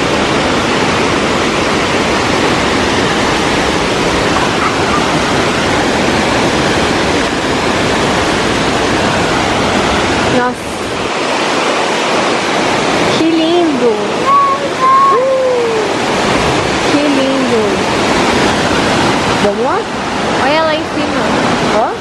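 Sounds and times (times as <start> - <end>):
water rushing over rapids: 0.0 - 22.0
waterfall: 0.0 - 22.0.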